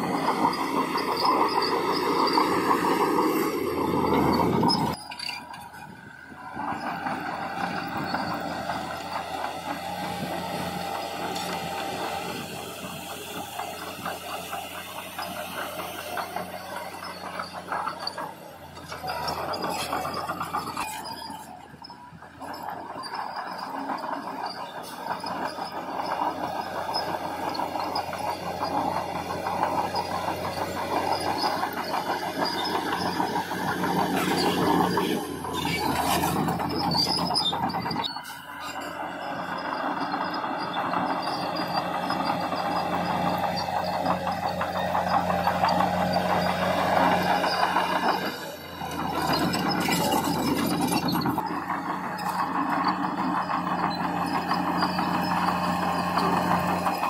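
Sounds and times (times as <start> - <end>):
diesel machinery engine drone: 0.0 - 57.0
rattling and clanking: 0.0 - 57.0.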